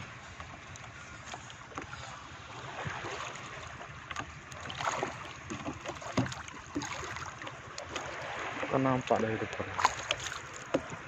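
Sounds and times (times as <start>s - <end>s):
rush of water and wind: 0.0s - 11.0s
splashes and knocks against hull: 1.2s - 11.0s.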